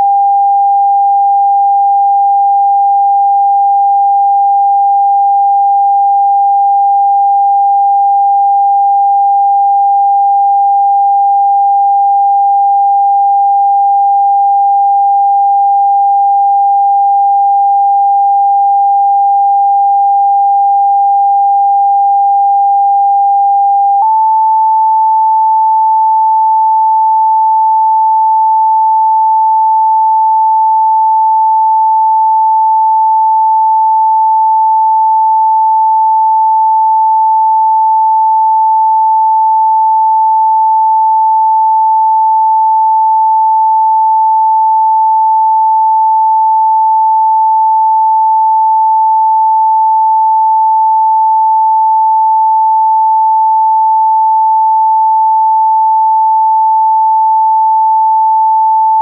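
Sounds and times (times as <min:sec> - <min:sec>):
steady sine tone: 0:00.0 - 0:59.0.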